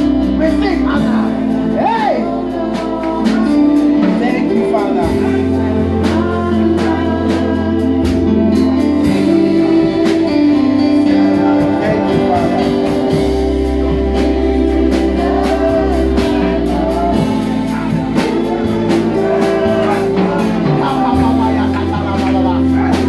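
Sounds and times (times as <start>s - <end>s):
gospel music with singing: 0.0s - 23.0s.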